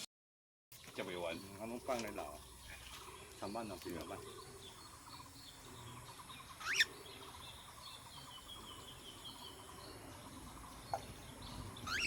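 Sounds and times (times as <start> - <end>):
birds chirping: 0.7 - 12.0
insects chirping: 0.8 - 12.0.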